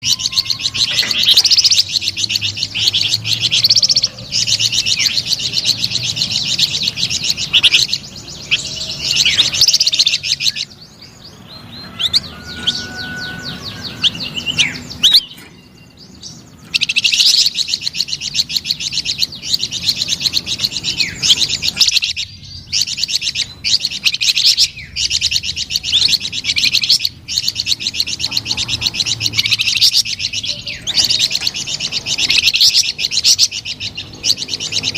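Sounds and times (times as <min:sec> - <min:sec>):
songbird singing fast chattering notes: 0:00.0 - 0:34.9.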